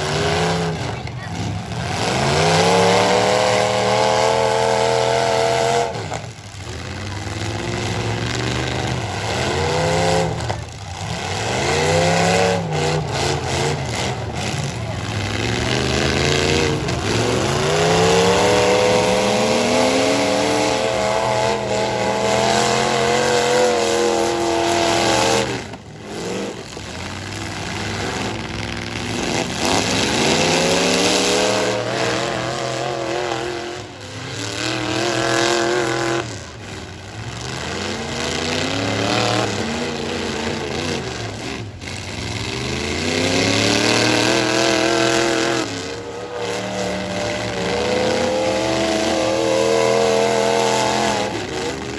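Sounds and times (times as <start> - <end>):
pickup truck engines revving hard: 0.0 - 51.9.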